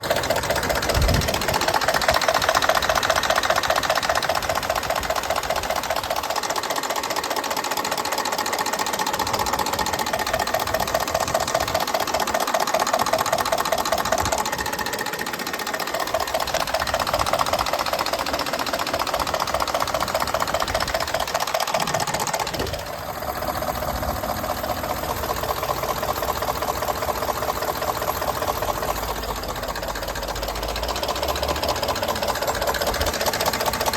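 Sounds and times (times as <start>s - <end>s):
engine running with steady knock: 0.0s - 33.9s.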